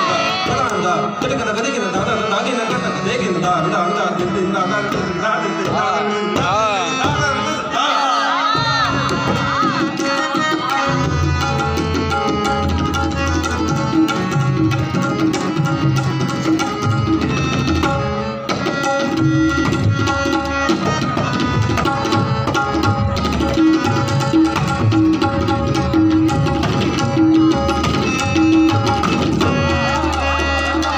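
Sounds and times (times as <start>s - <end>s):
tabla drumming: 0.0s - 7.8s, 8.4s - 30.9s
harmonium melody: 0.0s - 30.9s.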